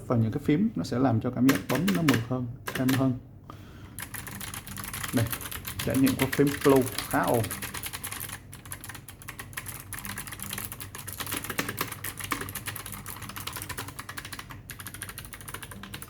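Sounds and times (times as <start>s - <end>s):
mechanical keyboard typing: 1.4s - 3.1s, 4.0s - 16.0s.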